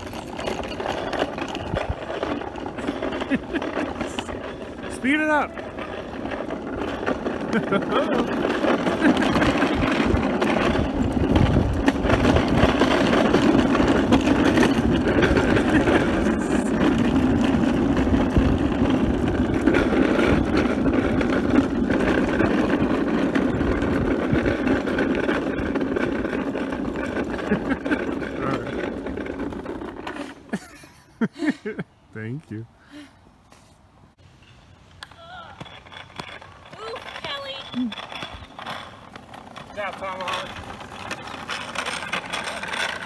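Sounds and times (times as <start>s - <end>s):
wheels rolling over asphalt: 0.0s - 43.0s.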